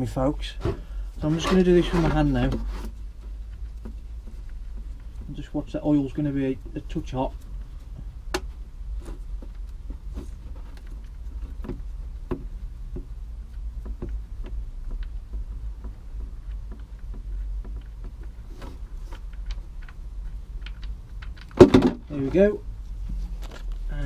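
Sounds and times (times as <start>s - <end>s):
steady low rumble: 0.0s - 24.0s
knocks and scrapes of unscrewing: 0.4s - 23.9s.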